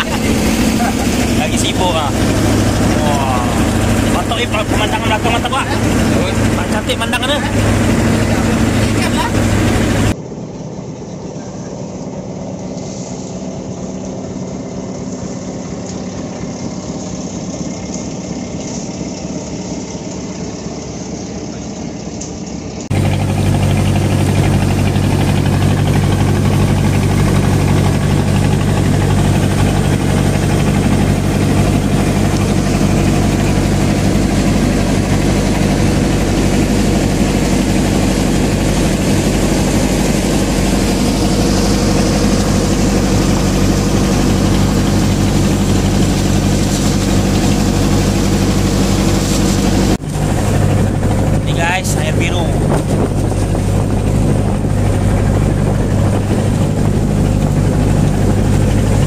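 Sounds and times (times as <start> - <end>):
boat motor humming: 0.0 - 59.0.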